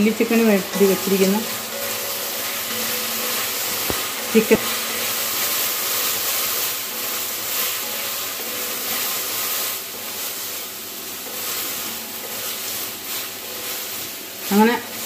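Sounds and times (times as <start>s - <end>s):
spatula stirring in metal pan: 0.0s - 15.0s
stir-fry sizzling: 0.0s - 15.0s.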